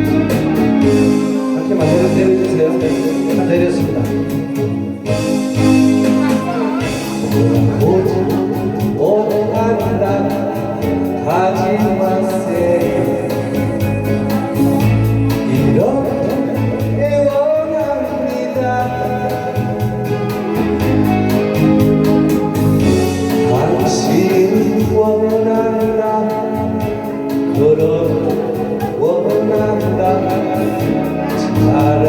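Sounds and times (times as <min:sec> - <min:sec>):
backing track with steady beat: 0:00.0 - 0:32.0
person singing: 0:00.0 - 0:32.0.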